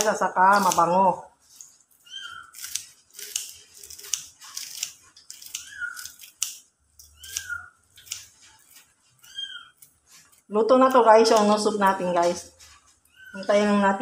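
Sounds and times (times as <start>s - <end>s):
scissors snipping herbs: 0.0s - 1.7s, 2.4s - 12.5s.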